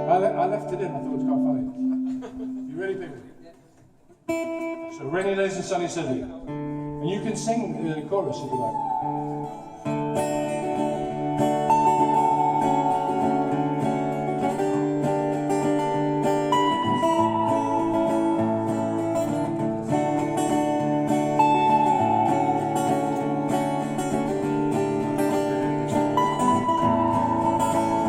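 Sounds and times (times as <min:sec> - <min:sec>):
acoustic guitar strumming: 0:00.0 - 0:03.3, 0:04.3 - 0:05.3, 0:06.5 - 0:28.0.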